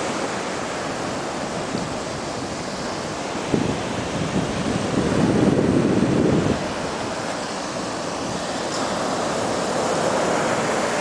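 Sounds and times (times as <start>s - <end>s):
surf crashing on beach: 0.0s - 11.0s
wind on microphone: 0.0s - 11.0s.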